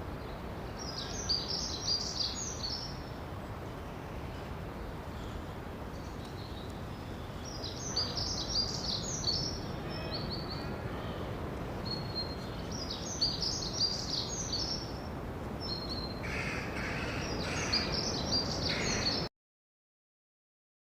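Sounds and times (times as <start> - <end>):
low outdoor background rush: 0.0 - 19.3
songbirds chirping: 0.1 - 19.3.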